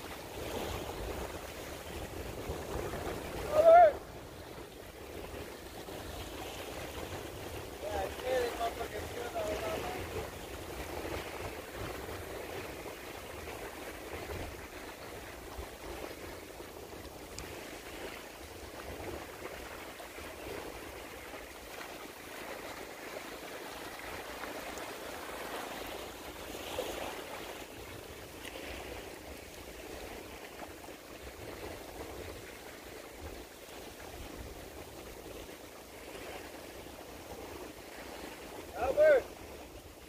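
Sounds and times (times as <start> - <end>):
water lapping at bank: 0.0 - 40.0.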